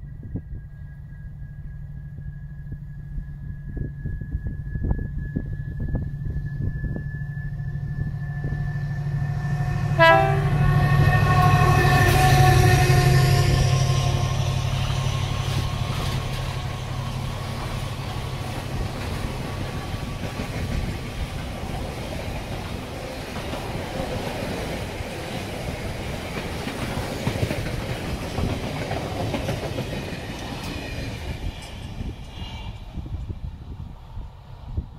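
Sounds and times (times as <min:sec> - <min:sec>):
locomotive engine hum: 0:00.1 - 0:34.9
train wheels rolling on track: 0:04.9 - 0:34.8.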